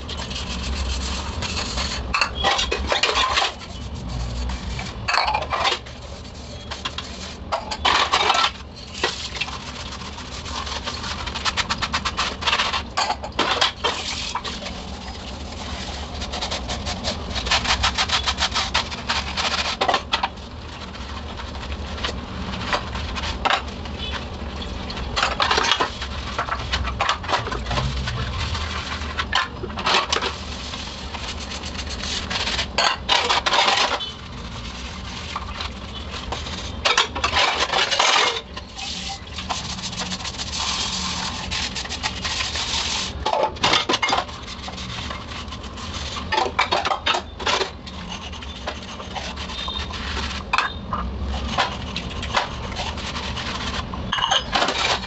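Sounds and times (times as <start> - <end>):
scrubber scouring dishes: 0.0 - 55.0.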